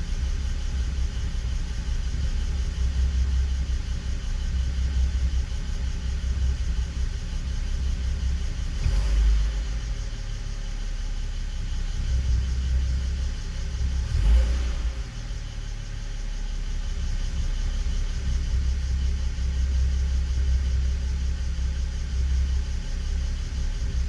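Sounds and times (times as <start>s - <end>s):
car engine idling roughly: 0.0s - 24.0s.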